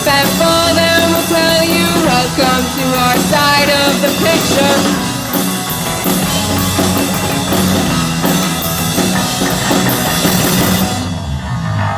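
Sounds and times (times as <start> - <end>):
drum kit with cymbal crashes: 0.0 - 11.7
bass guitar: 0.0 - 11.9
electric guitars: 0.0 - 11.9.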